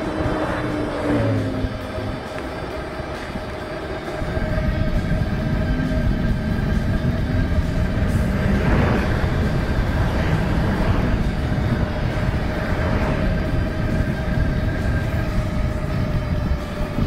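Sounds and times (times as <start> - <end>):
constant hum: 0.0 - 17.0
vehicle rumble: 0.0 - 17.0.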